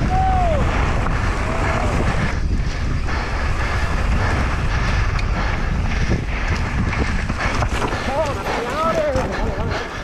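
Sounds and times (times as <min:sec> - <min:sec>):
bike rumbling and rattling on dirt: 0:00.0 - 0:10.0
wind buffeting microphone: 0:00.0 - 0:10.0.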